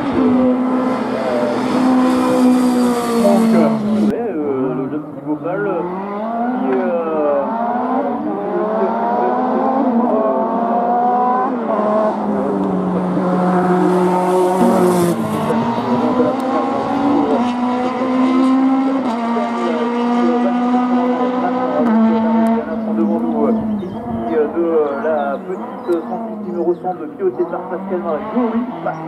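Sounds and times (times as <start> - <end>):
racing car engine at full throttle: 0.0 - 29.0.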